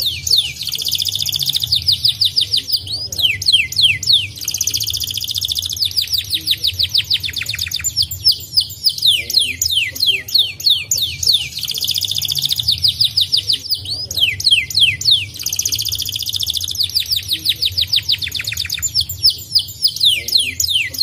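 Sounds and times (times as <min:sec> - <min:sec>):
canary singing: 0:00.0 - 0:21.0
low steady hum: 0:00.0 - 0:21.0.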